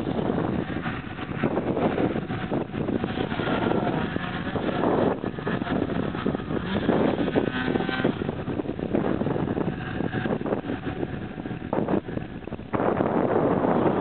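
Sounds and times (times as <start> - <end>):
snowmobile engines at high revs: 0.0 - 14.0.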